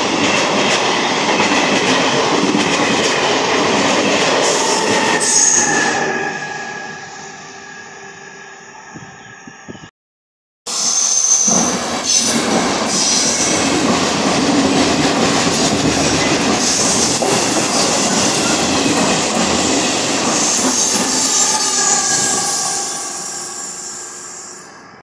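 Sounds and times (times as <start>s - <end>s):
train passing at speed: 0.0s - 9.8s, 10.7s - 25.0s.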